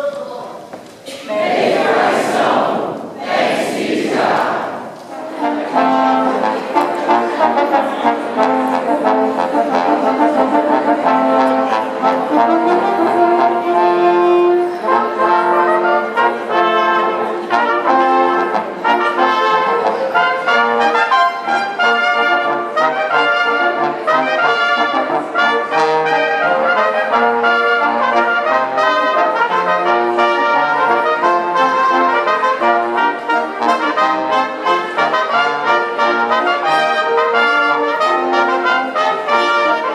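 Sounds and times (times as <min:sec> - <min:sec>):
brass ensemble playing: 0:01.2 - 0:39.9.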